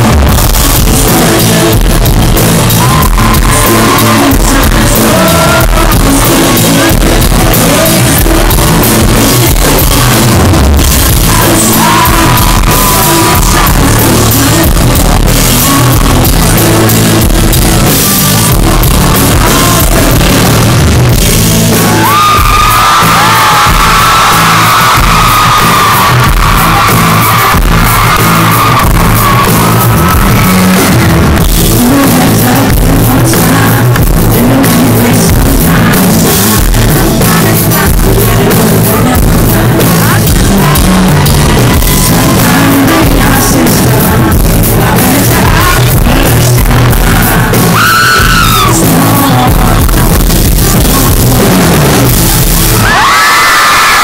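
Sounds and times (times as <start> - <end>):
man singing: 0.0 - 53.1
fans screaming: 0.0 - 54.0
live band music: 0.0 - 54.0.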